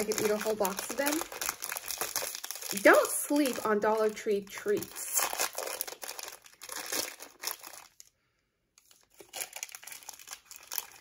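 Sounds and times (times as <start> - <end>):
plastic packaging crinkling: 0.0 - 8.2, 8.8 - 11.0.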